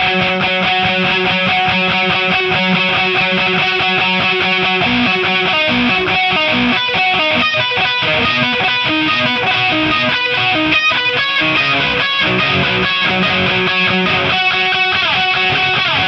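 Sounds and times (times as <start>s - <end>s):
distorted electric guitar melody: 0.0s - 16.0s.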